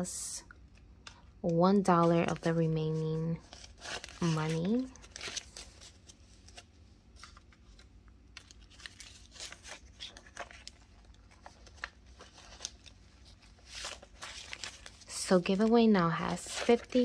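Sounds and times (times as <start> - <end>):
banknotes rustling and flicking: 0.7 - 17.0.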